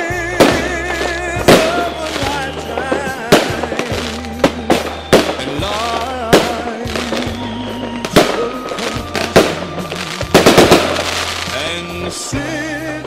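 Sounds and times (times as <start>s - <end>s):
background music: 0.0s - 13.0s
firework whistles: 0.0s - 13.0s
fireworks bangs: 0.0s - 13.0s.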